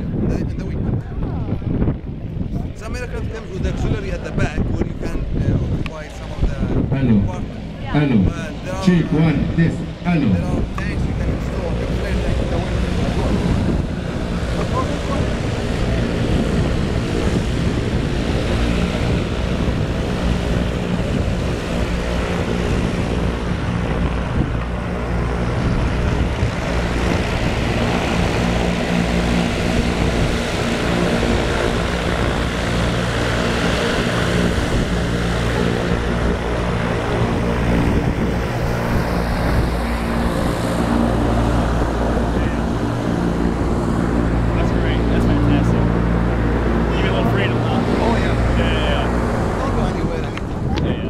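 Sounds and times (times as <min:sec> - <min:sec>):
propeller airplane engine droning: 0:00.0 - 0:51.0.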